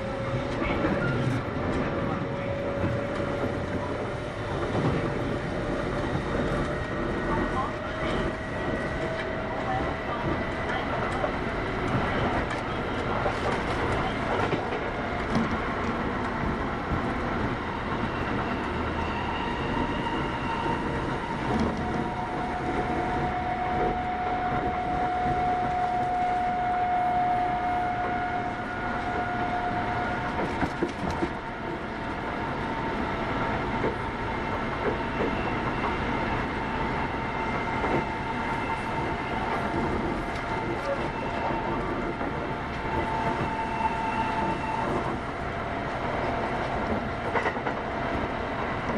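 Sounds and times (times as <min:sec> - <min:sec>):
steady train whine: 0:00.0 - 0:48.9
train rolling and motor noise: 0:00.0 - 0:48.9.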